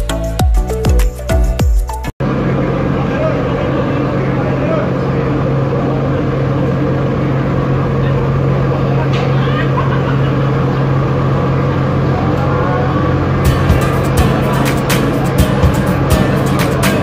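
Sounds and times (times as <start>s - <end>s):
ship machinery drone: 2.0s - 17.0s
crowd chatter: 2.3s - 17.0s.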